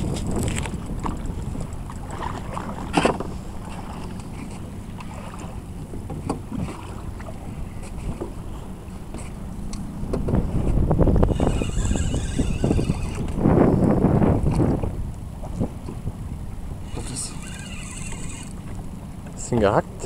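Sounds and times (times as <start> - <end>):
water lapping against boat hull: 0.0 - 20.0
wind buffeting microphone: 0.0 - 20.0.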